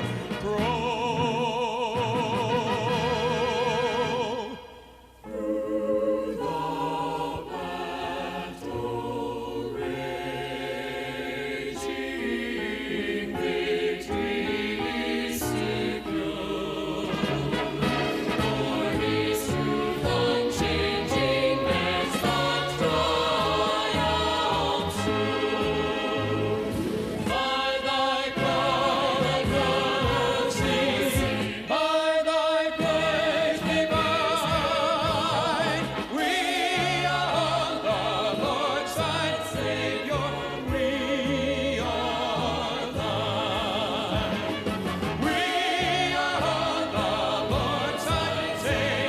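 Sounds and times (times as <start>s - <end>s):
gospel choir singing: 0.0s - 49.0s.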